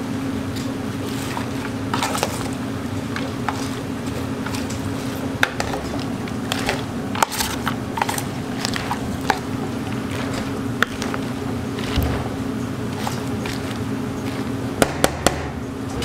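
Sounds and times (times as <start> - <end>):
steady low hum: 0.0 - 16.0
wet crunching of vegetables: 0.4 - 15.1.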